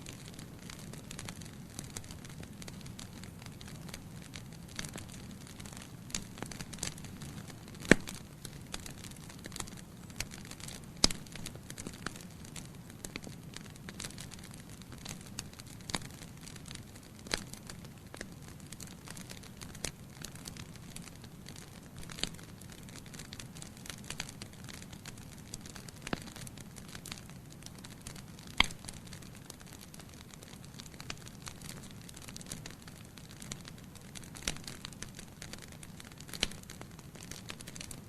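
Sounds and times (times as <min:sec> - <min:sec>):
fire crackles and pops: 0:00.0 - 0:38.0.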